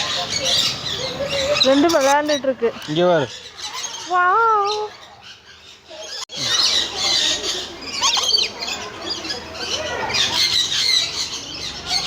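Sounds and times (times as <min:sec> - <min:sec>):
birds squawking and chattering: 0:00.0 - 0:12.0.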